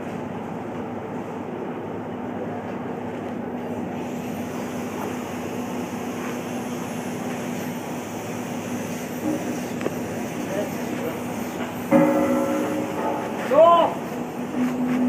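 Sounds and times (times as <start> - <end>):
constant low hum: 0.0 - 15.0
ship machinery drone: 0.0 - 15.0.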